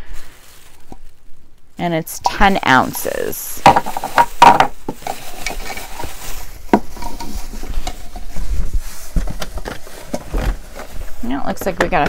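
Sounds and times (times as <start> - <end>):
packaging rustling and crinkling: 0.0 - 1.8, 2.4 - 12.0.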